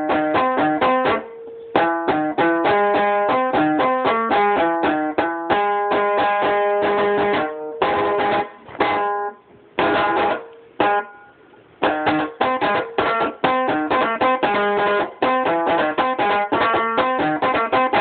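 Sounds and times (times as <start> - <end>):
lyre being plucked: 0.0 - 18.0.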